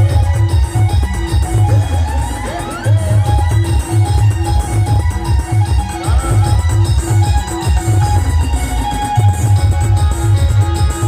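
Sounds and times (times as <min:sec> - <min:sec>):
heavy pulsing bass beat: 0:00.0 - 0:11.0
keyboard melody notes: 0:00.0 - 0:11.0
live band playing dance music: 0:00.0 - 0:11.0.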